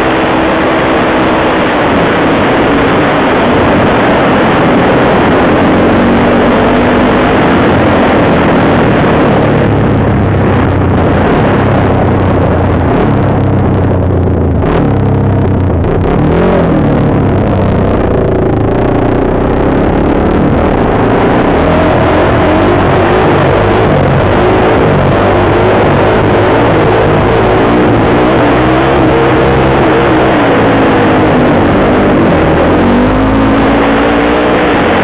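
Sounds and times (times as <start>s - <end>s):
quad bike engine revving: 0.0s - 35.0s
steady rushing noise: 0.0s - 35.0s.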